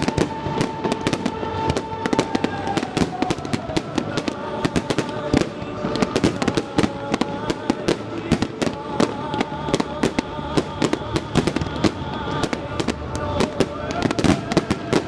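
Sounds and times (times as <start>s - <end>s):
christmas music over loudspeakers: 0.0s - 15.0s
fireworks bangs and crackles: 0.0s - 15.0s.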